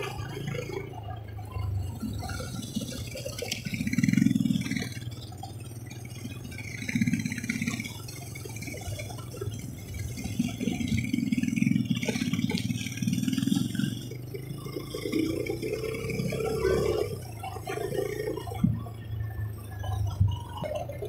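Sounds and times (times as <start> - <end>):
motorcycle engine: 0.0 - 21.0
motorcycle rattling: 0.0 - 21.0.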